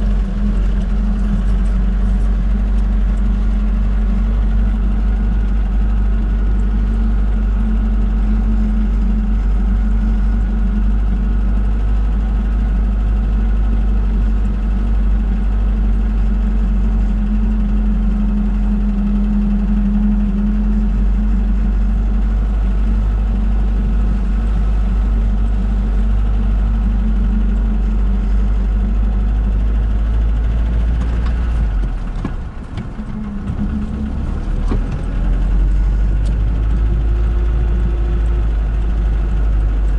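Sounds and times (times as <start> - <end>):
van engine droning: 0.0 - 39.9.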